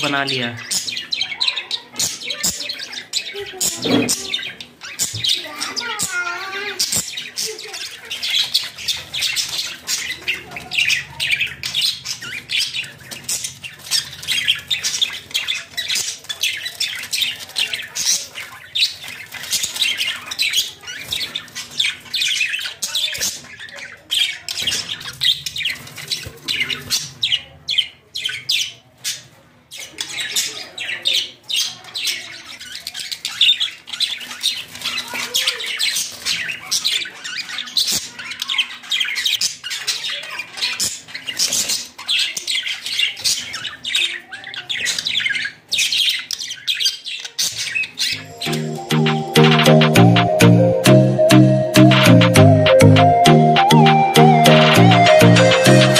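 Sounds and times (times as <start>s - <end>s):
budgerigars chattering and squawking: 0.0s - 50.7s.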